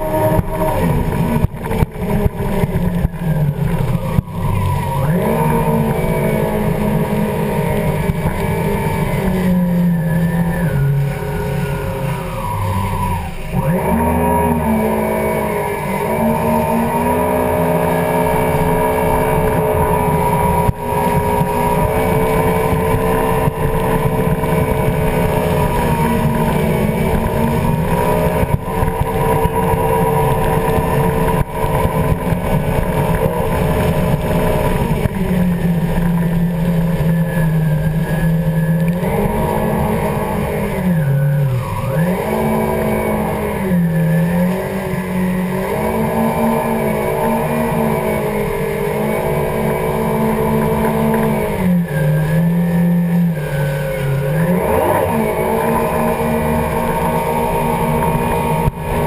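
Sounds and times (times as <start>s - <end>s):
jet ski engine running hard: 0.0s - 59.0s
water spray rushing: 0.0s - 59.0s.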